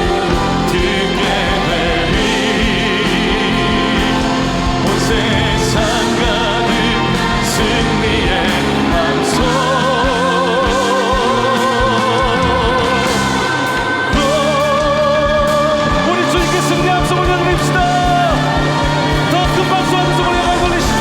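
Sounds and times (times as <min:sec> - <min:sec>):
vocalists singing held notes: 0:00.0 - 0:21.0
worship band playing: 0:00.0 - 0:21.0.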